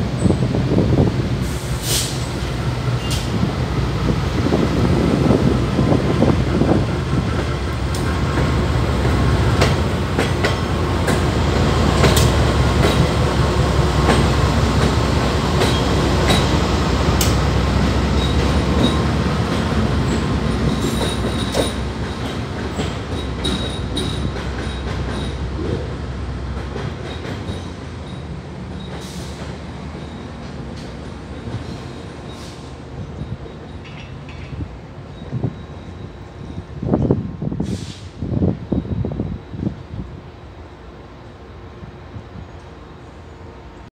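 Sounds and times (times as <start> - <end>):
diesel locomotive passing: 0.0 - 43.9
train wheels rumbling on rail: 0.0 - 43.9.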